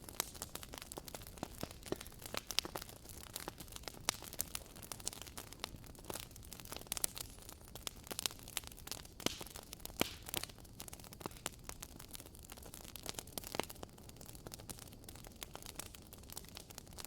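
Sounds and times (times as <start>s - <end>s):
wood fire popping and snapping: 0.0s - 17.0s.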